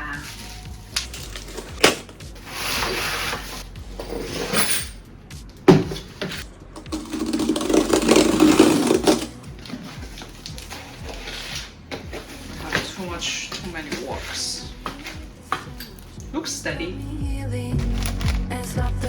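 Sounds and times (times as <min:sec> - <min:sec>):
objects rubbing and scraping: 0:00.0 - 0:05.0, 0:05.7 - 0:16.2.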